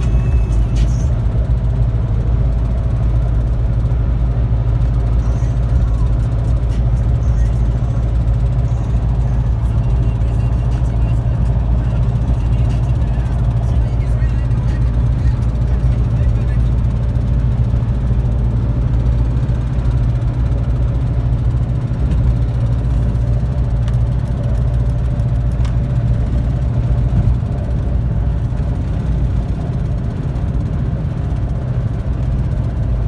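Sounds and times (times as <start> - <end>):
car front-end low rumble: 0.0 - 33.0.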